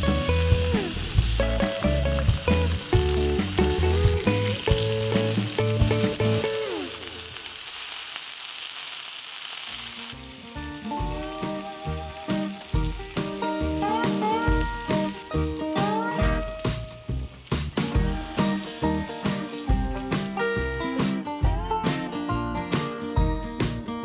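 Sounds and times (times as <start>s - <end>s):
background music: 0.0s - 7.0s, 10.2s - 24.0s
meat sizzling on a griddle: 0.0s - 20.8s.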